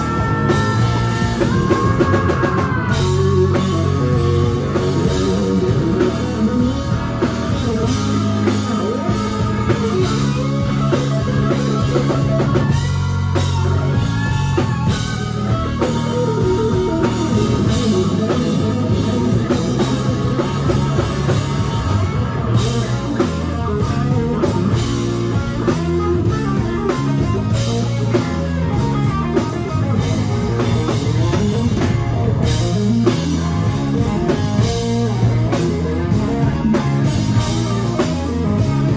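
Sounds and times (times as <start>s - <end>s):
drum kit: 0.0s - 38.9s
electric guitar: 0.0s - 38.9s
rock band playing: 0.0s - 38.9s.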